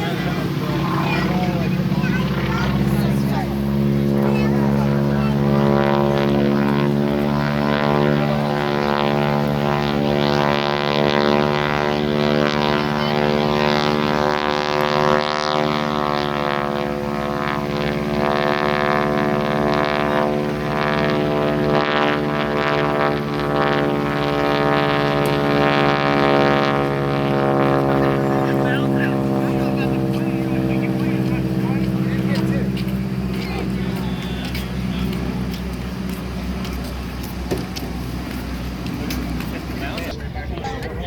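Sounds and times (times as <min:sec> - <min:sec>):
propeller aircraft engines droning: 0:00.0 - 0:41.0.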